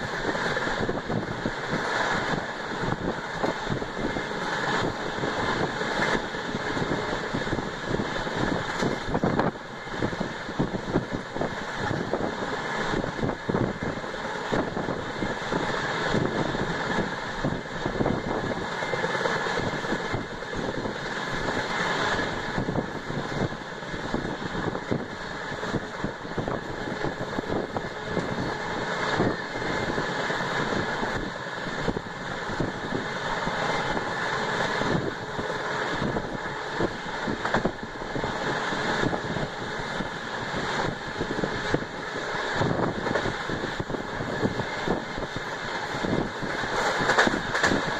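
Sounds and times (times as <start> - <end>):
train clatter and rattling: 0.0 - 47.9
train wheels rumbling on rail: 0.0 - 47.9.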